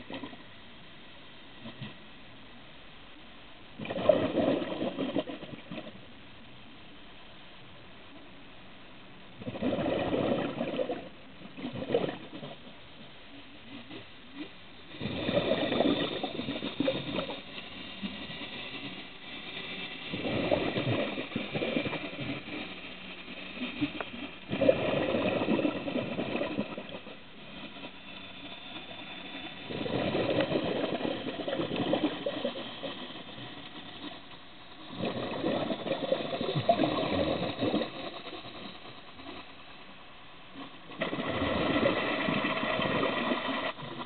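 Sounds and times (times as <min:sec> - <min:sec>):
exhaled bubbles gurgling underwater: 0:00.0 - 0:00.5, 0:03.7 - 0:06.2, 0:09.4 - 0:44.0.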